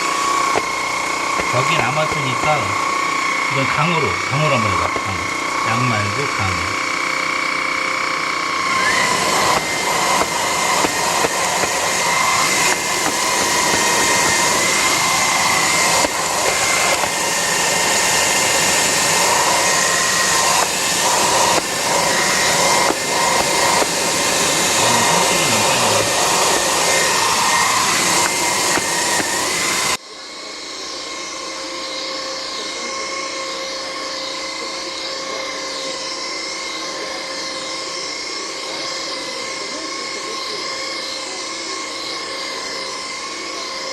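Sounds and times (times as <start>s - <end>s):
stick vacuum motor whine: 0.0s - 43.9s
vacuum brush-head noise: 0.0s - 43.9s.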